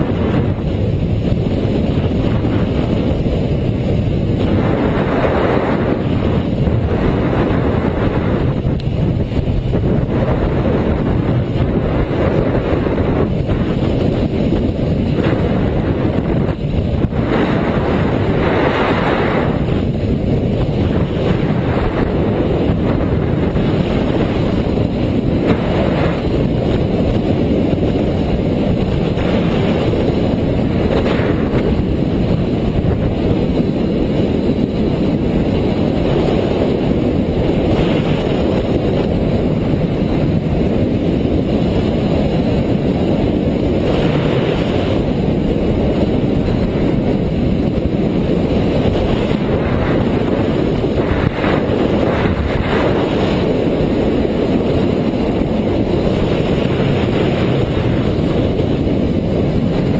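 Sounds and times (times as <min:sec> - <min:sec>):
motorcycle engine running: 0:00.0 - 0:59.9
road noise: 0:00.0 - 0:59.9
wind rushing over microphone: 0:00.0 - 0:59.9.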